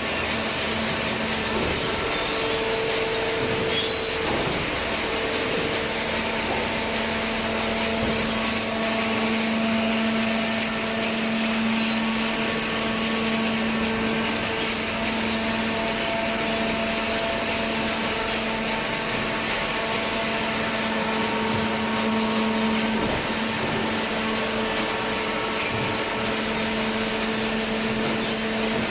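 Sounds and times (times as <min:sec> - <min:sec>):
baler machine humming: 0:00.0 - 0:28.9.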